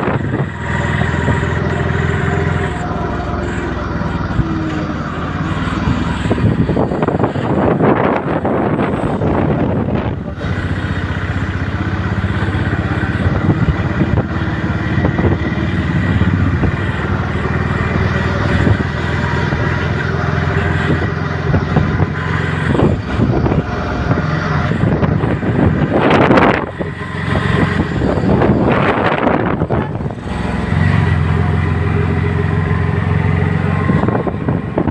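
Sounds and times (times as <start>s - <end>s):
engine running: 0.0s - 34.9s
loud rushing noise: 0.0s - 34.9s
street noise: 0.0s - 34.9s.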